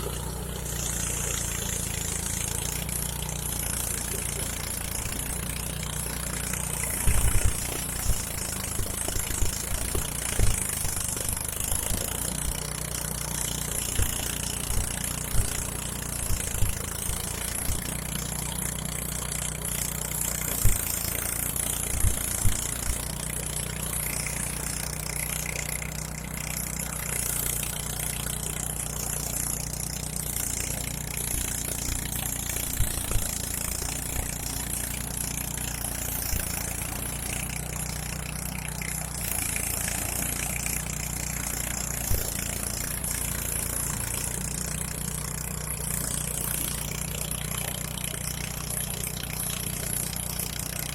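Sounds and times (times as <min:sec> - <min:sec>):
rice thresher engine drone: 0:00.0 - 0:50.9.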